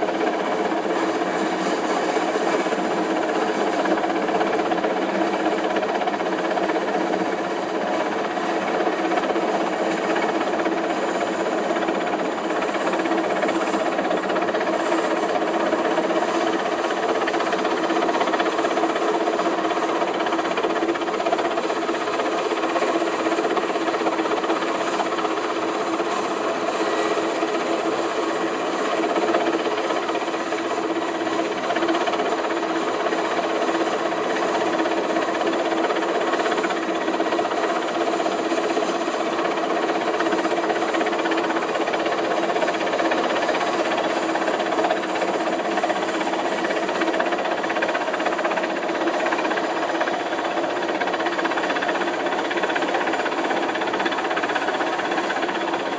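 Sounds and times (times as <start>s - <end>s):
helicopter engine and rotor: 0.0s - 55.9s.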